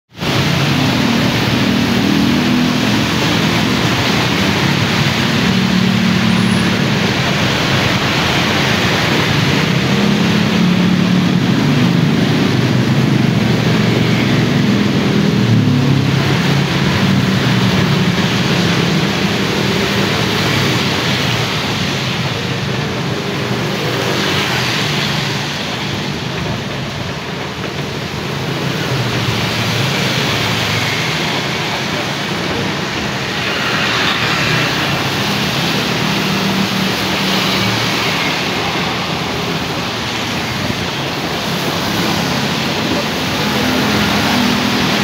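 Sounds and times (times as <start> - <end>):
motorbike engines passing: 0.2 - 45.0
rain and wet tyres hissing: 0.2 - 45.0.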